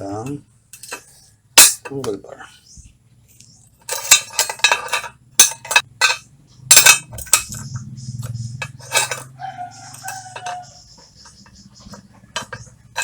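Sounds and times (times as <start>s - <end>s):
metal clinking on metal: 0.2s - 2.0s, 3.8s - 13.0s.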